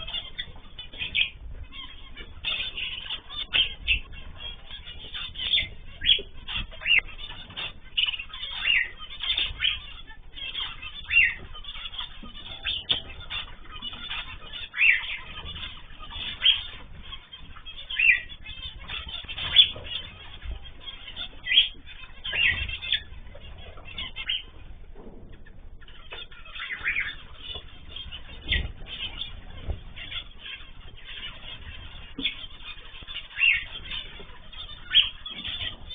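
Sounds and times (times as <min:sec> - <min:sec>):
cage birds chirping: 0:00.0 - 0:35.9.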